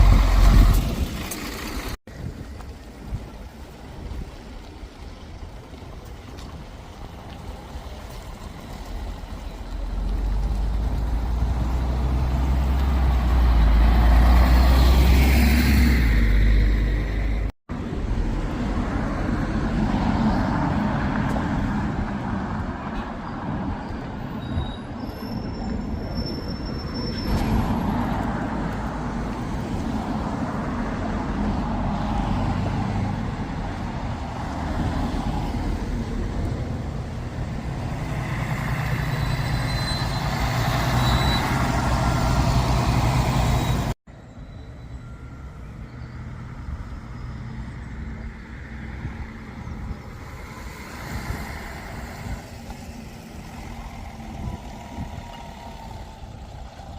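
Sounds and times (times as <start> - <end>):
diesel bus engine rumbling: 0.0 - 56.9
road traffic: 0.0 - 56.9.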